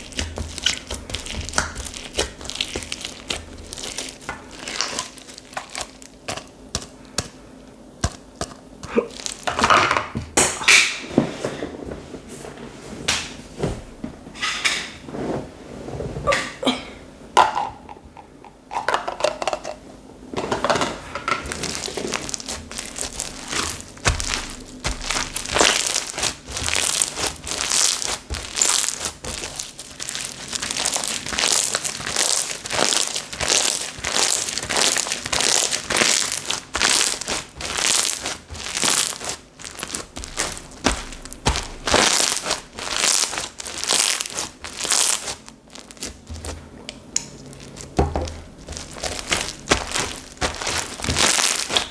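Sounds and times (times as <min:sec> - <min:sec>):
slime being kneaded by hand: 0:00.0 - 0:11.4, 0:21.0 - 0:51.9.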